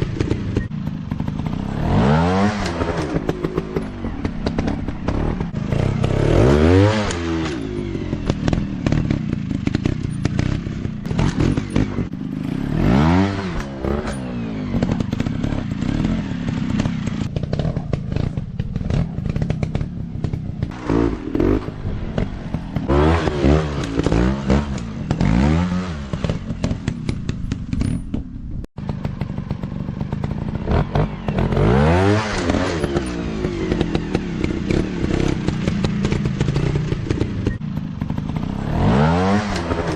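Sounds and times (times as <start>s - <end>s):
dirt bike engines revving: 0.0s - 27.8s, 28.8s - 39.9s
clatter: 0.0s - 39.9s.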